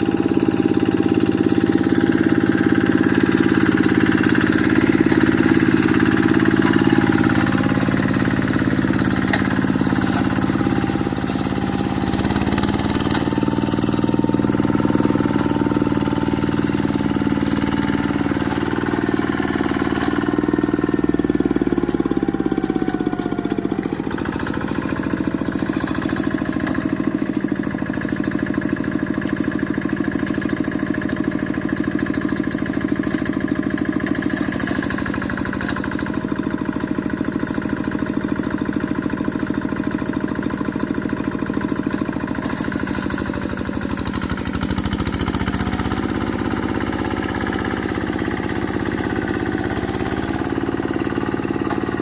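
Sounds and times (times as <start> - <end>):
hand tractor engine running: 0.0 - 52.0.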